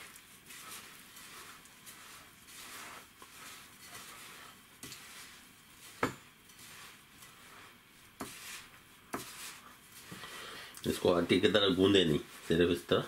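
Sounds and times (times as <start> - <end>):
hand rubbing semolina in bowl: 0.0 - 10.3, 10.9 - 13.0.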